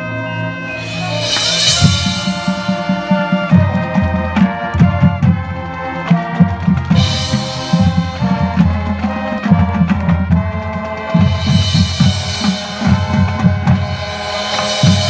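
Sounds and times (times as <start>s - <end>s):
marching band playing: 0.0s - 15.0s
wind chords: 0.0s - 15.0s
drum strokes: 0.6s - 5.4s, 6.4s - 9.2s, 10.0s - 15.0s.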